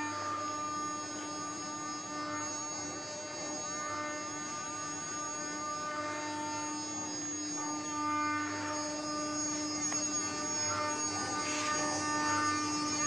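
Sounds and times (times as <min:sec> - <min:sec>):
router spindle whining: 0:00.0 - 0:13.0.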